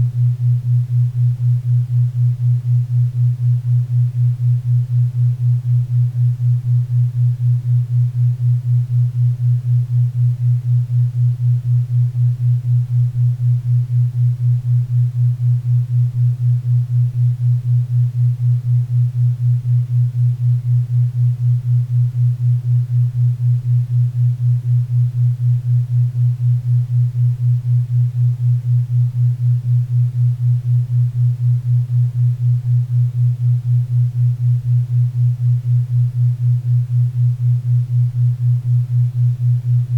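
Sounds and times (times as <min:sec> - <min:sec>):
pulsing low hum: 0:00.0 - 0:39.9.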